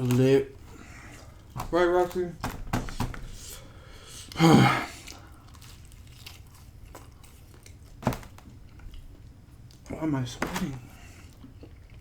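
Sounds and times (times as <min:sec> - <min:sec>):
person chewing pizza: 0:00.0 - 0:02.1, 0:03.2 - 0:10.2, 0:10.8 - 0:12.0.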